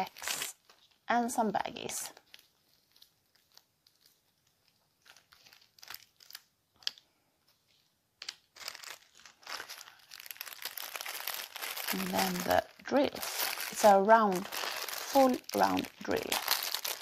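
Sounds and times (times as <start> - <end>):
plastic bags crinkling: 0.0 - 1.0, 1.6 - 17.0.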